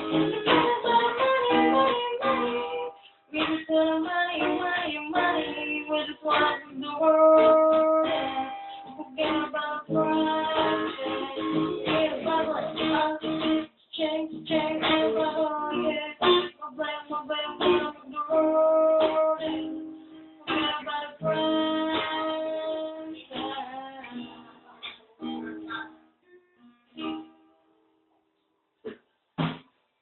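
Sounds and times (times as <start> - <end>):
acoustic guitar accompaniment: 0.0 - 27.7, 28.8 - 29.8.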